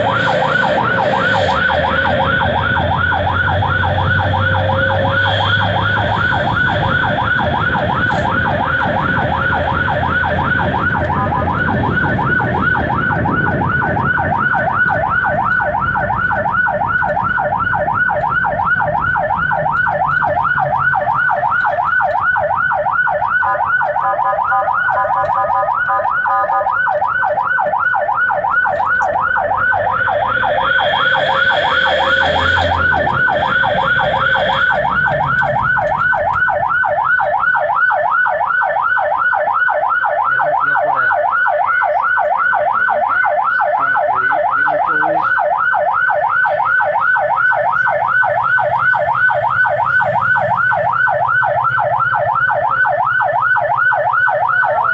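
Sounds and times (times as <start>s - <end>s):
ambulance siren yelping: 0.0s - 54.9s.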